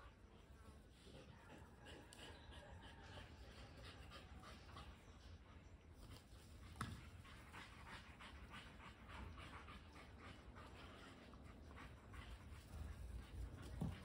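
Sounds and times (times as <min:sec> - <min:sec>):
dog panting: 0:00.6 - 0:05.6, 0:06.2 - 0:14.0.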